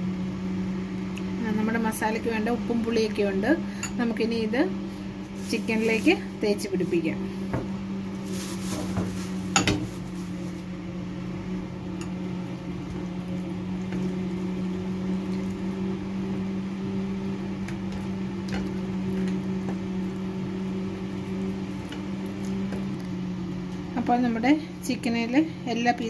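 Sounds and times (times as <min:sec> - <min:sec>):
electrical motor hum: 0:00.0 - 0:26.0.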